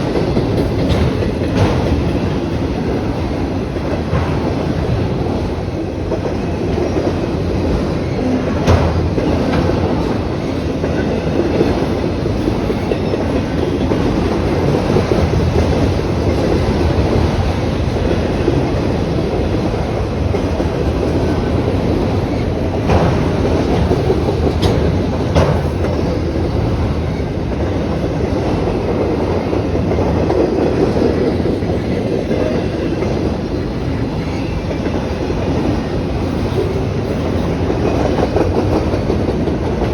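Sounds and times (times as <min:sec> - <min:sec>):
train rolling on track: 0:00.0 - 0:39.9.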